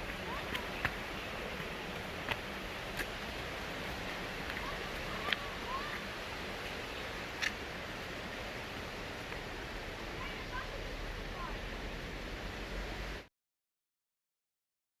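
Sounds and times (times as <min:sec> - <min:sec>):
stream water rushing: 0:00.0 - 0:13.3.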